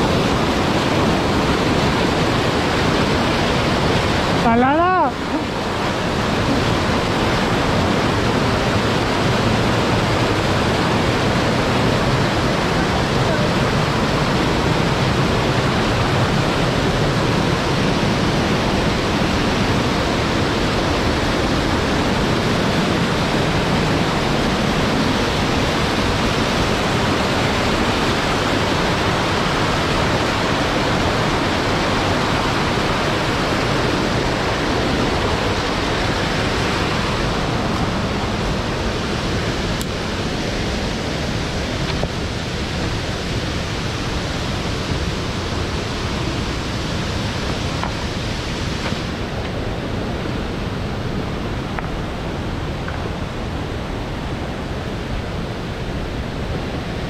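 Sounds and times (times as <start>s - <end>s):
waterfall splashing over boulders: 0.0s - 57.0s.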